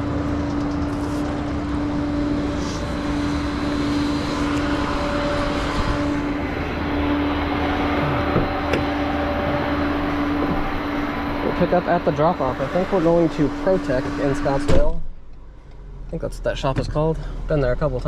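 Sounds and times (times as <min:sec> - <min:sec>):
constant low hum: 0:00.0 - 0:18.0
truck engine and road drone: 0:00.0 - 0:18.0.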